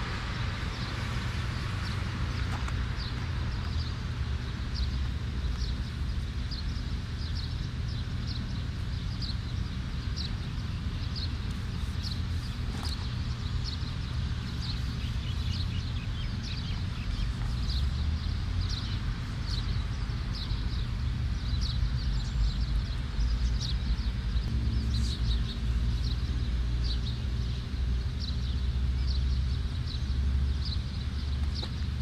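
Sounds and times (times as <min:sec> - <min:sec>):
faint steady hum: 0:00.0 - 0:32.0
steady low rumble: 0:00.0 - 0:32.0
bird chirping: 0:00.3 - 0:32.0.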